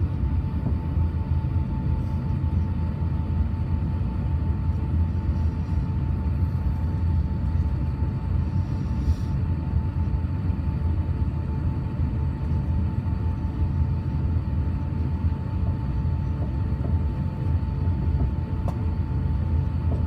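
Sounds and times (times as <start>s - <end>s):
aircraft cabin rumble: 0.0s - 20.0s
thin steady whine: 0.0s - 20.0s.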